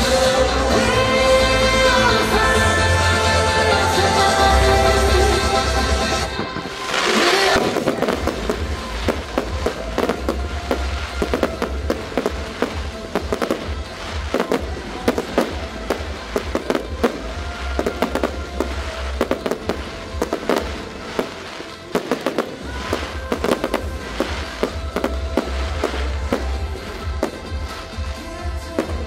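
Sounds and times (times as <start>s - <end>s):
music playing: 0.0s - 29.0s
fireworks bangs and crackle: 5.1s - 29.0s.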